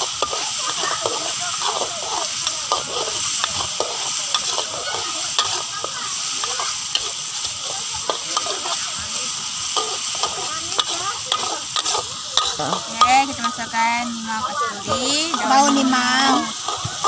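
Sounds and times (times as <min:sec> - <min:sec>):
metal spatula scraping a wok: 0:00.0 - 0:17.0
paste sizzling in hot oil: 0:00.0 - 0:17.0.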